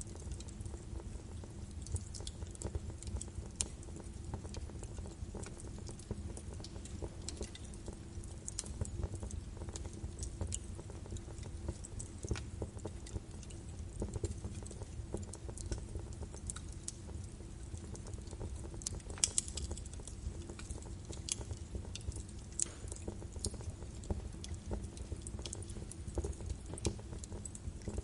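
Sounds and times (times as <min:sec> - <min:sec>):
low rumble of flames: 0:00.0 - 0:28.0
wood fire pops and snaps: 0:00.0 - 0:28.0.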